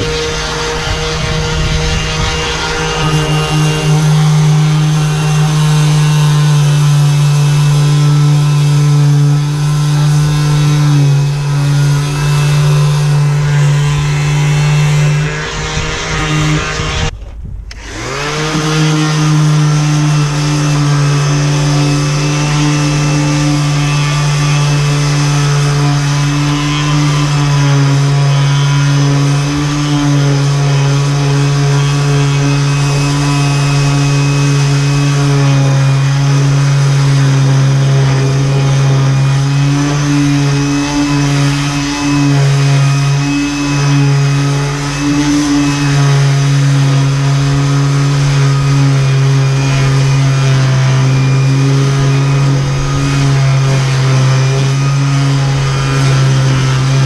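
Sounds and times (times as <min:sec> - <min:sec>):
electric motor running: 0:00.0 - 0:57.0.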